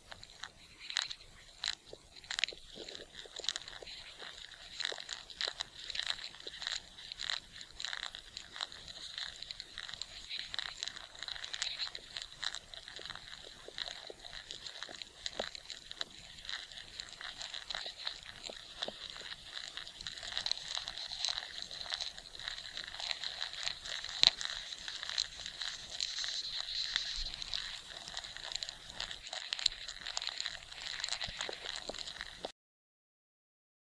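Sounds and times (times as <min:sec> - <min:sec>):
scratchy crackling and clicking: 0:00.0 - 0:32.5.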